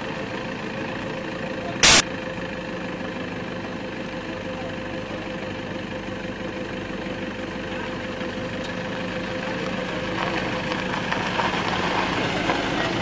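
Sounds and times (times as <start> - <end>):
jeep engines idling: 0.0 - 13.0.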